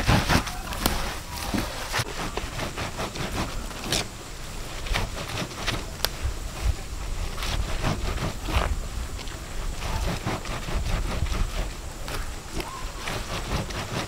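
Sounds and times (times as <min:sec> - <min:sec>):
hands rasping leaves on tray: 0:00.0 - 0:14.0.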